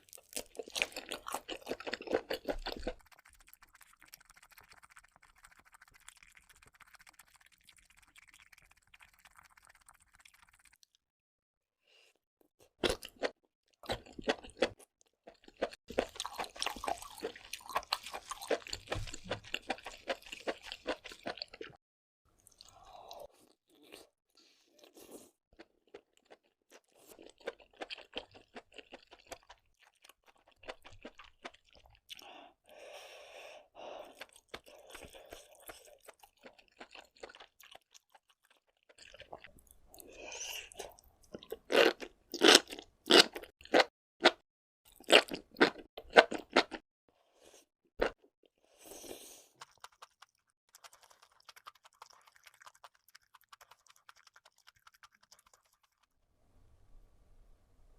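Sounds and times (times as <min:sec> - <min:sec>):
person crunching food: 0:00.0 - 0:10.9, 0:12.8 - 0:21.8, 0:24.8 - 0:32.2, 0:34.0 - 0:46.8, 0:48.9 - 0:56.2.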